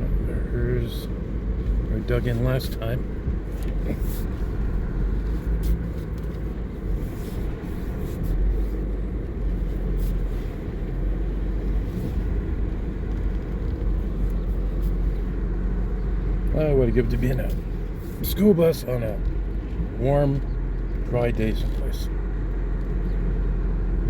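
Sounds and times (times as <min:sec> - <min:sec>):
engine and tyres rumbling: 0:00.0 - 0:24.0.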